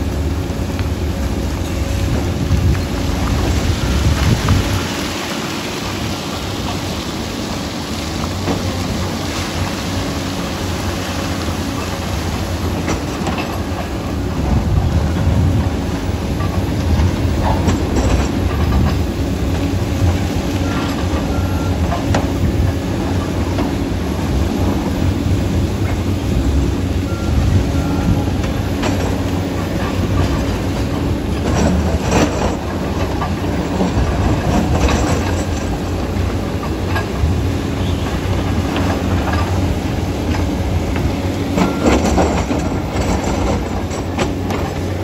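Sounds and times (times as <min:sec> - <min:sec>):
bulldozer diesel engine: 0:00.0 - 0:45.0
steel tracks clanking: 0:00.0 - 0:45.0.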